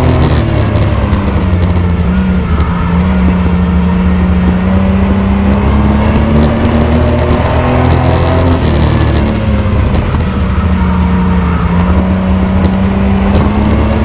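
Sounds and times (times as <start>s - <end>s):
race truck engine accelerating: 0.0s - 14.0s.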